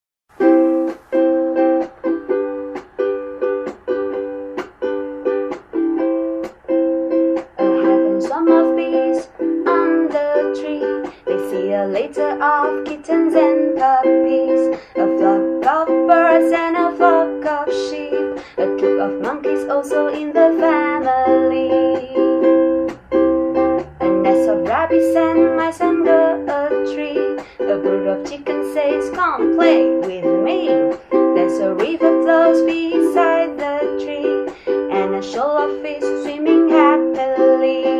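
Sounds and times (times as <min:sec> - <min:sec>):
ukulele strumming: 0:00.3 - 0:37.9.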